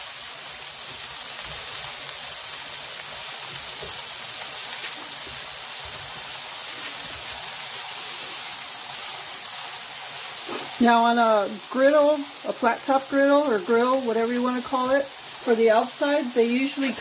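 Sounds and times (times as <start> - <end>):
burger patties sizzling on griddle: 0.0 - 17.0.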